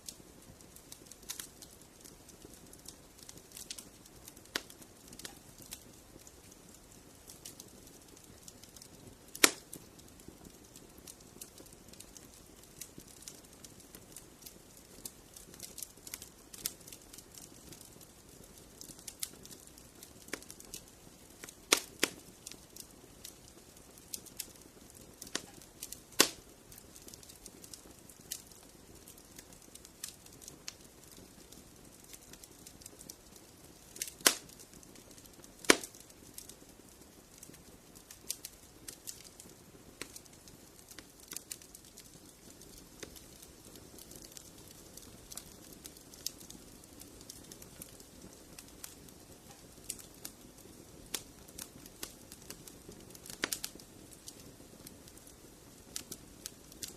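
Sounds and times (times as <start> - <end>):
sharp pops of fire: 0.0 - 56.9
wood fire crackling: 0.0 - 56.9.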